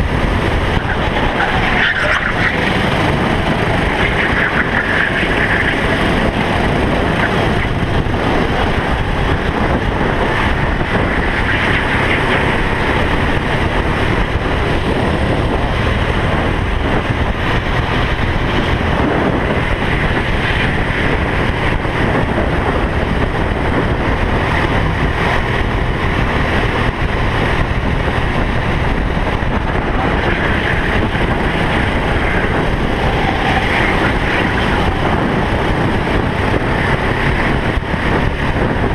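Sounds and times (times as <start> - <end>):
kart engine running hard: 0.0 - 38.9
wind noise on microphone: 0.0 - 38.9.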